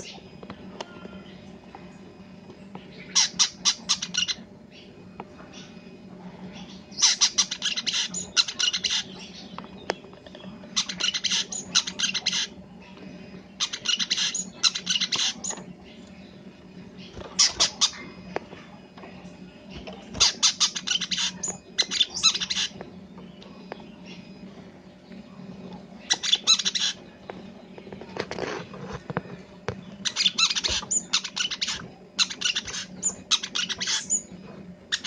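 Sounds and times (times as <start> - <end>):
sunbird singing chattering phrases: 2.6 - 28.2, 29.8 - 35.0.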